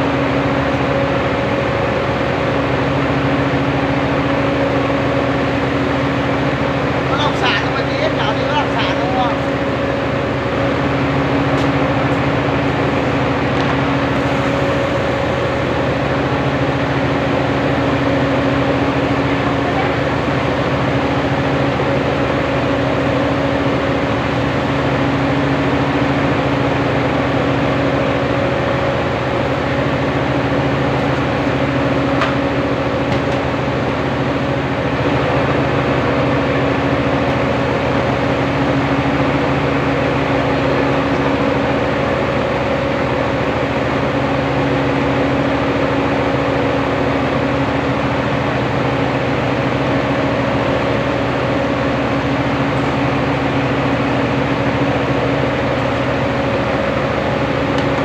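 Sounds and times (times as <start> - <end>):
rice mill machine droning: 0.0 - 58.0.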